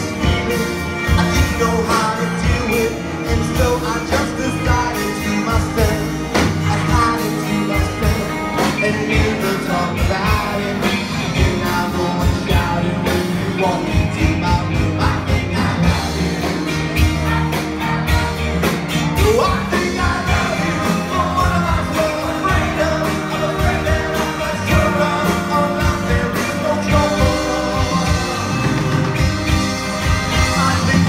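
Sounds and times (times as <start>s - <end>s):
bass guitar: 0.0s - 31.0s
electric guitars: 0.0s - 31.0s
lead singer singing: 0.0s - 31.0s
steady drumbeat: 0.0s - 31.0s.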